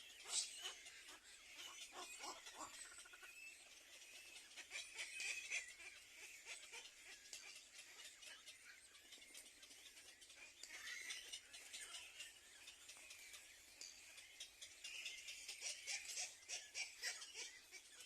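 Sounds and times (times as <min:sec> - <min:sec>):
faint high-pitched bird chirping: 0:00.0 - 0:18.0.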